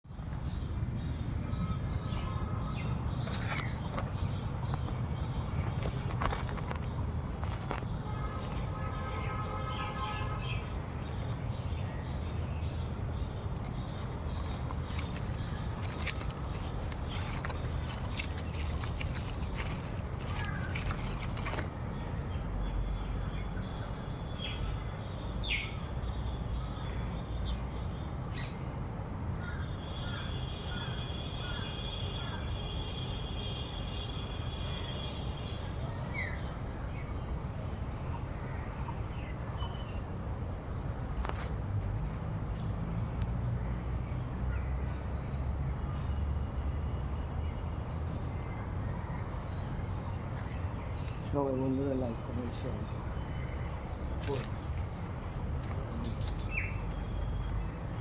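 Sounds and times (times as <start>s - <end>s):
high-pitched insect chorus: 0.1s - 58.0s.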